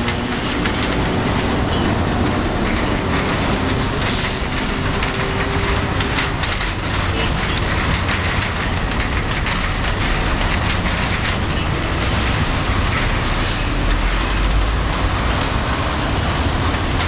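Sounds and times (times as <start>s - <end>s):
vehicles driving over rails: 0.0s - 17.0s.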